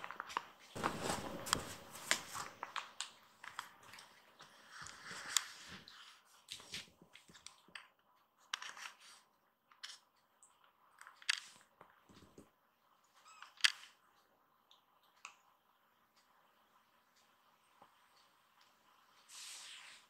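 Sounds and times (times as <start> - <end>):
small irregular clicks: 1.5 - 20.0.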